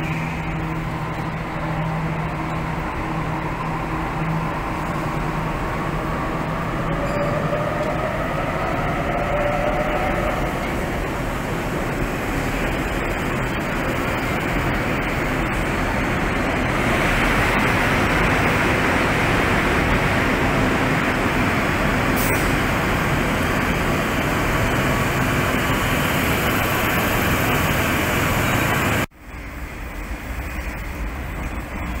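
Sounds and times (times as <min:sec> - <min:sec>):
train wheels and motors rumbling: 0:00.0 - 0:32.0.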